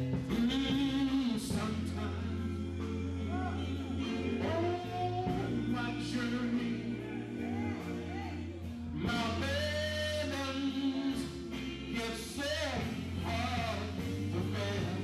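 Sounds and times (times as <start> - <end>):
electric guitar: 0.0 - 15.0
male vocal group singing gospel: 0.0 - 15.0.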